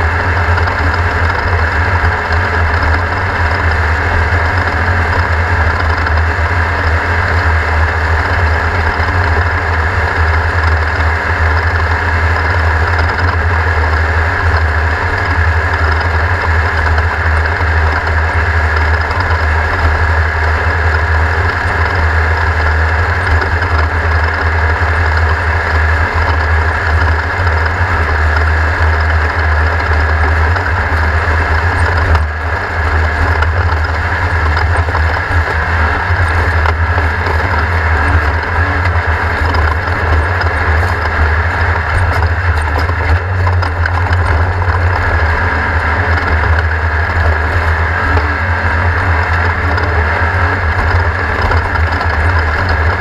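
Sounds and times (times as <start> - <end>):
race car engine rumbling: 0.0 - 53.0.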